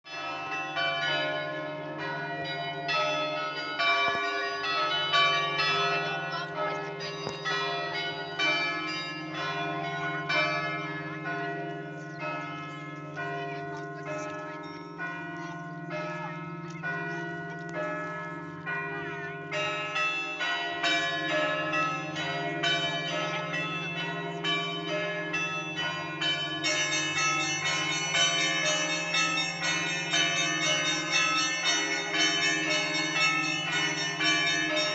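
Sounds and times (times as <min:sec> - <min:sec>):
small bells ringing rhythmically: 0:00.0 - 0:34.9.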